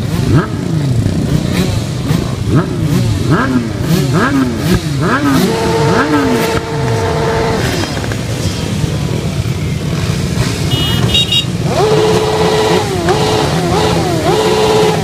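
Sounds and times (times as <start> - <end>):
motorcycle accelerating through gears: 0.0 - 10.7, 11.6 - 15.0
motorcycle engines running: 0.0 - 15.0.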